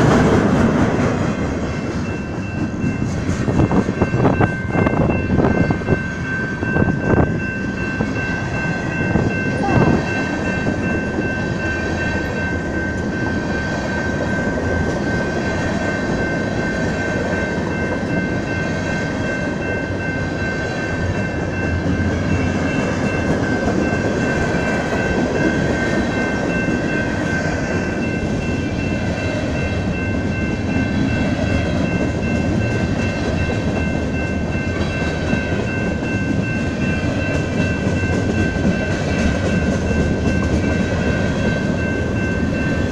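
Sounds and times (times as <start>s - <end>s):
freight train rumble: 0.0s - 42.9s
high-pitched ring: 1.7s - 42.9s.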